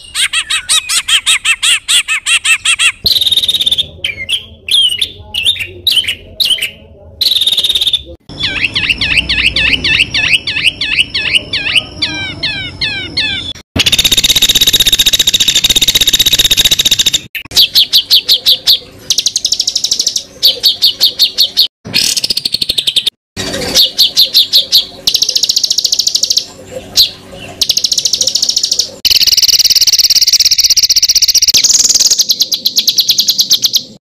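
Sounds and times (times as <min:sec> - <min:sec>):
buzzy bird trill: 0:00.0 - 0:34.0
rapid chattering bird notes: 0:00.0 - 0:34.0.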